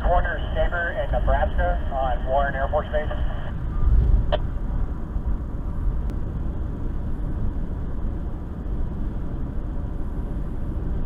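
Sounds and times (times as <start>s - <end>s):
car engine rumble inside car: 0.0s - 11.0s.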